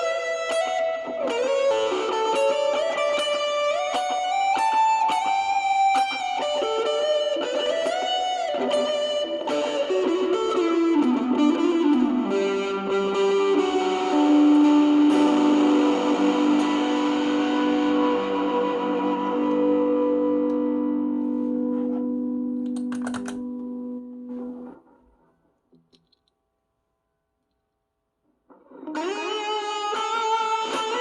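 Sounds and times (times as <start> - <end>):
distorted electric guitar: 0.0 - 25.0, 28.5 - 31.0.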